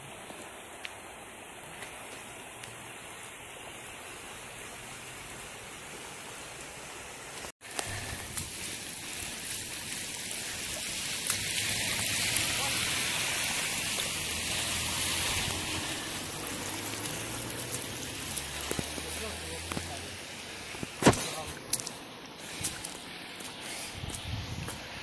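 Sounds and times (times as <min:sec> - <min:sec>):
floodwater running over grass: 0:00.0 - 0:25.0
river rushing in flood: 0:00.0 - 0:25.0.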